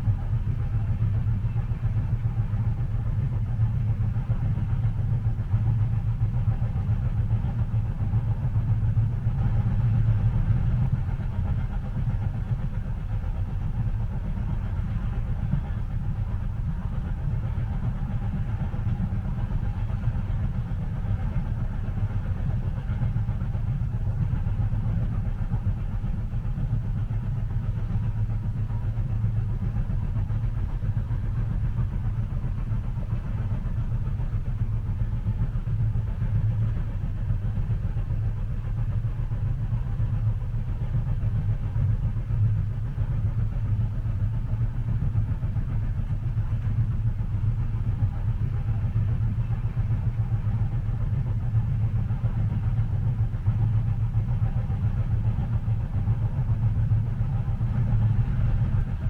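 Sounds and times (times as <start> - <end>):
train rumbling inside cabin: 0.0 - 59.0.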